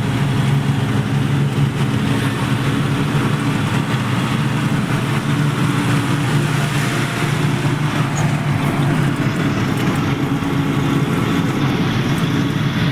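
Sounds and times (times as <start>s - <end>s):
road and wind noise: 0.0s - 12.9s
vehicle engine droning: 0.0s - 12.9s.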